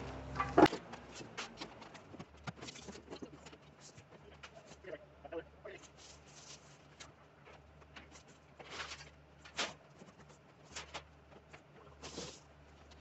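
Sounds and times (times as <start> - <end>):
cardboard and scraps clattering: 0.4 - 4.8, 5.8 - 13.0.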